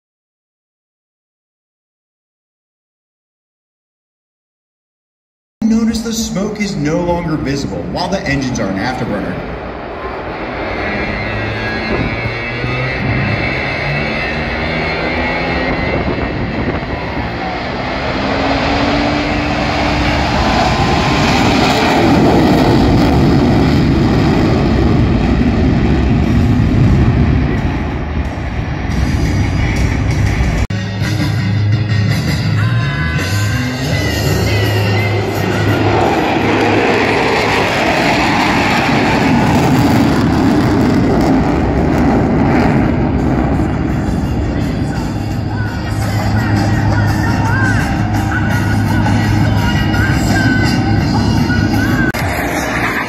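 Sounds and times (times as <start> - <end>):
jet roar: 5.6 - 53.0.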